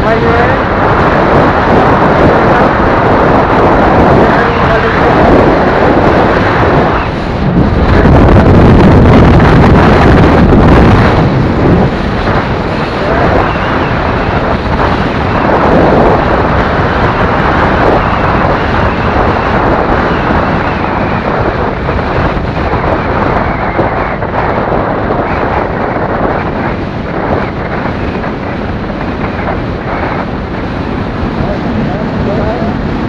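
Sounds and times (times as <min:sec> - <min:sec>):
road noise: 0:00.0 - 0:33.0
wind rushing over microphone: 0:00.0 - 0:33.0.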